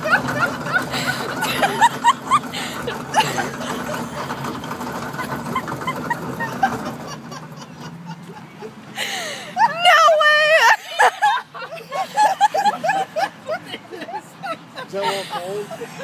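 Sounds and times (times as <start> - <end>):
people laughing and giggling: 0.0 - 16.0.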